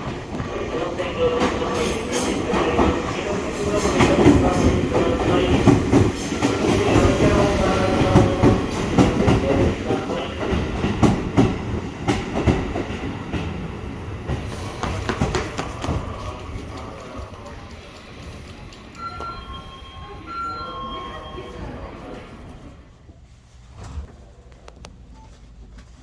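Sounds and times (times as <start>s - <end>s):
electric train running on rails: 0.0s - 22.8s.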